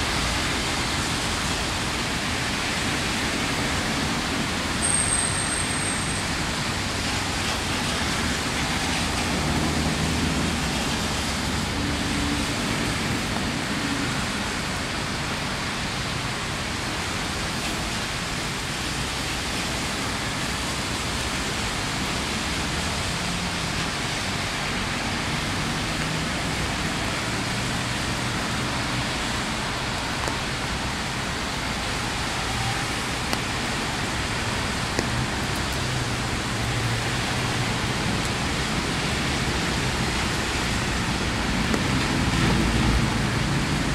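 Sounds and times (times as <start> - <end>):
distant road traffic rumble: 0.0 - 43.9
steady rain: 0.0 - 43.9.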